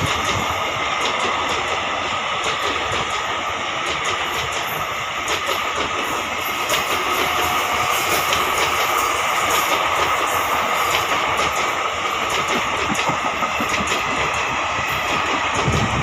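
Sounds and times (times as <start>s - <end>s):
train wheels rumbling on rail: 0.0s - 16.0s
wheels clicking over rail joints: 0.0s - 16.0s.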